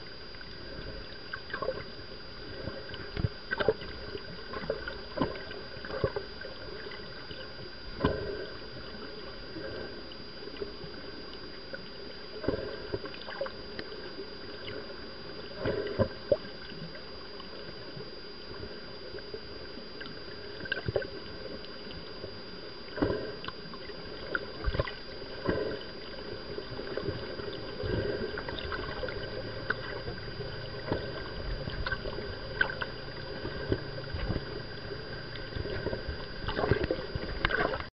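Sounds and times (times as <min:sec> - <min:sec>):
muffled underwater wash: 0:00.0 - 0:37.9
underwater knocks and gurgles: 0:00.0 - 0:37.9.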